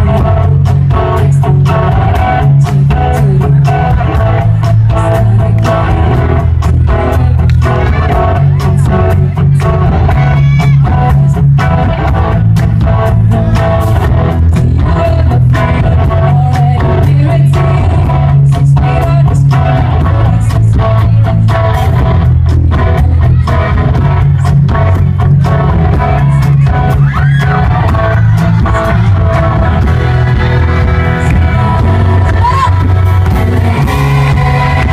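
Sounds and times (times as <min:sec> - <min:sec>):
loud live rock band: 0:00.0 - 0:34.9.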